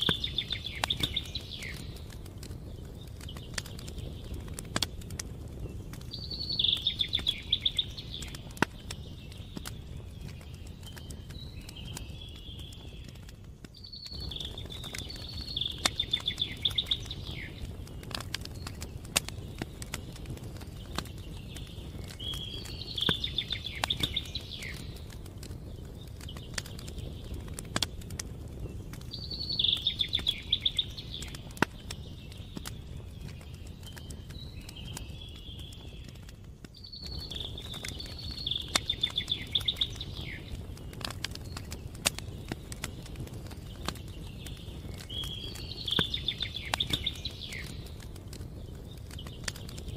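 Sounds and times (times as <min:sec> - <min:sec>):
campfire crackling and popping: 0:00.0 - 0:49.9
songbird singing with trill: 0:00.0 - 0:49.9
steady low rumble: 0:00.0 - 0:49.9.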